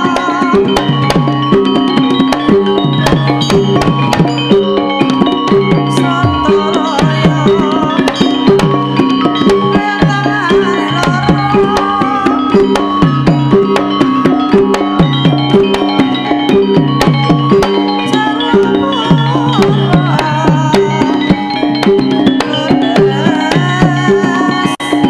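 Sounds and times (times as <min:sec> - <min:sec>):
drum strokes: 0:00.0 - 0:25.0
gamelan music: 0:00.0 - 0:25.0.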